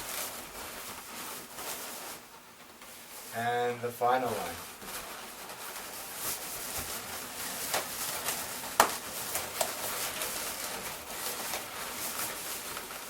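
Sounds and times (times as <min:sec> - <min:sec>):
balloon crackles: 0:00.0 - 0:13.0
balloons rubbing and squeaking: 0:00.0 - 0:13.0.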